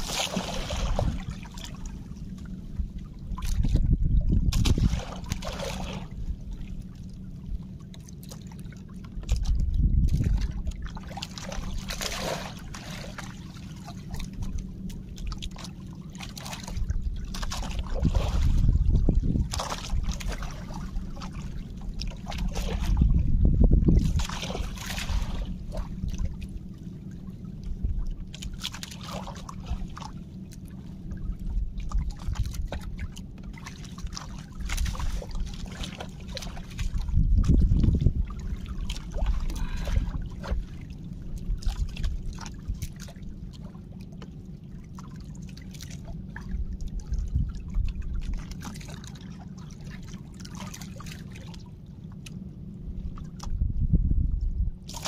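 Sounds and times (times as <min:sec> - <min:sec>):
seawater splashing and trickling: 0:00.0 - 0:55.0
steady low rumble: 0:00.0 - 0:55.0.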